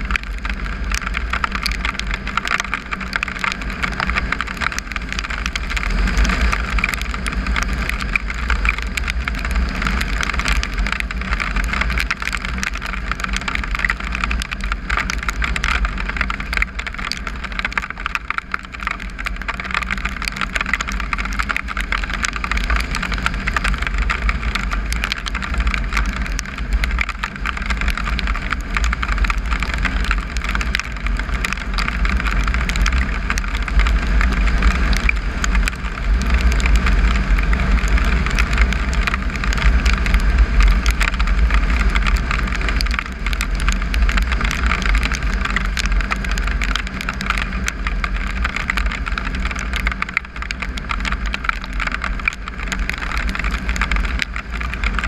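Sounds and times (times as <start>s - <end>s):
gravel crackling under tyres: 0.0s - 55.0s.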